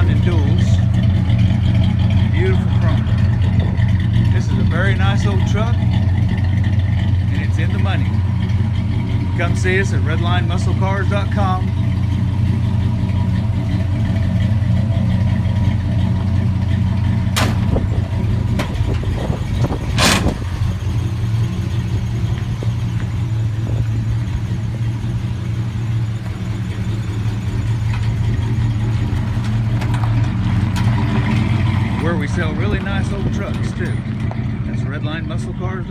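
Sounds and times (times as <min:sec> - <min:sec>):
truck engine idling: 0:00.0 - 0:35.9.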